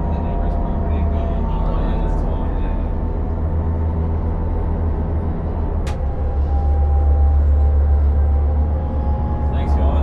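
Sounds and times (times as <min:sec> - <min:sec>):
motor boat engines droning: 0:00.0 - 0:10.0.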